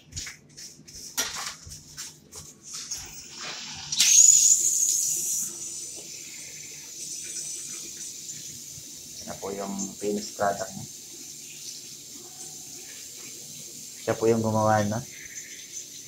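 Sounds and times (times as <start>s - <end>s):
tap water running into basin: 2.7s - 16.0s.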